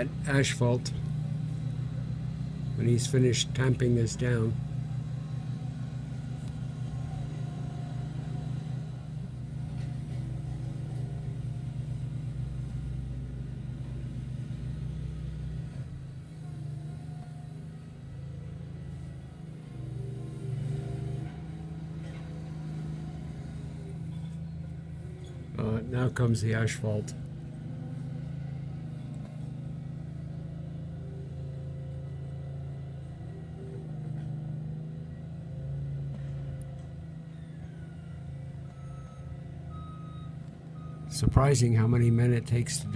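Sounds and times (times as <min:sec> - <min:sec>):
roller engine humming: 0:00.0 - 0:42.9.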